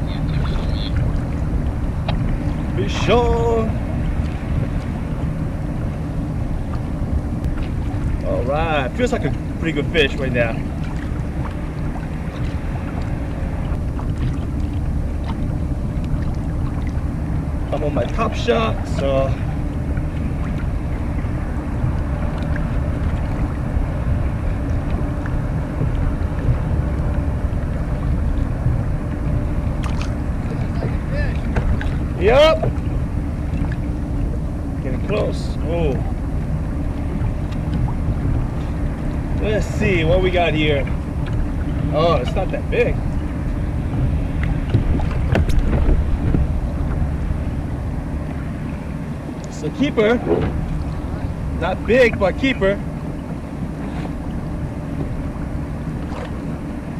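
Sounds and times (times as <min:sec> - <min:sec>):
water moving against kayak: 0:00.0 - 0:56.9
wind rumble on microphone: 0:00.0 - 0:56.9.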